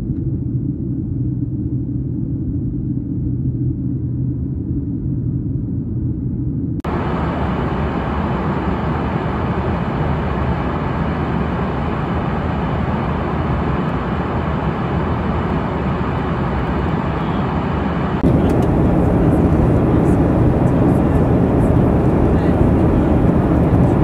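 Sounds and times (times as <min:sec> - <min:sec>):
airliner cabin engine noise: 0:00.0 - 0:24.0
low rumble: 0:00.0 - 0:24.0.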